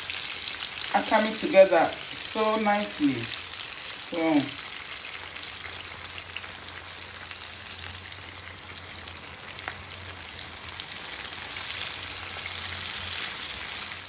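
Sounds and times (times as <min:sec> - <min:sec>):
fish frying in hot oil: 0:00.0 - 0:14.0.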